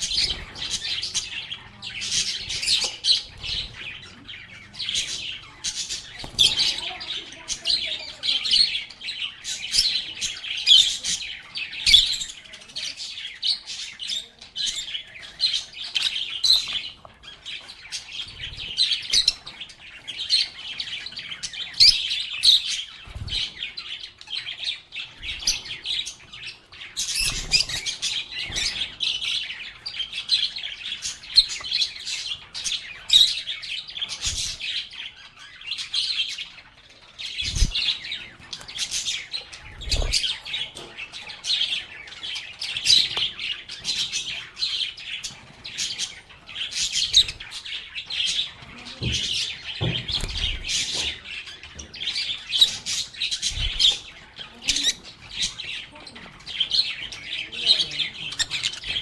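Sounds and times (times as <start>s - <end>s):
lovebirds chirping and chattering: 0.0s - 59.0s.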